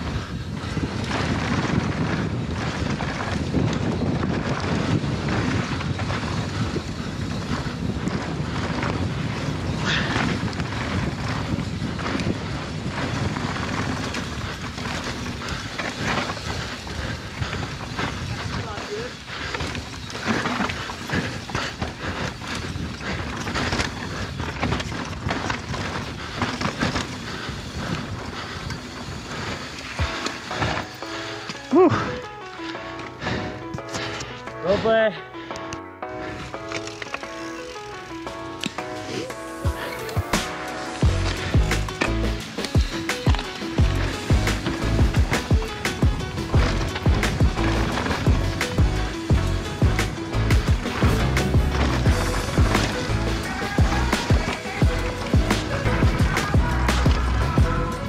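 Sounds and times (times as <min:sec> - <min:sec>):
wind buffeting microphone: 0:00.0 - 0:32.6, 0:39.6 - 0:58.0
bike chain and frame rattling: 0:00.0 - 0:35.1, 0:36.2 - 0:58.0
bike tyres rumbling over dirt: 0:00.0 - 0:35.2, 0:36.1 - 0:58.0.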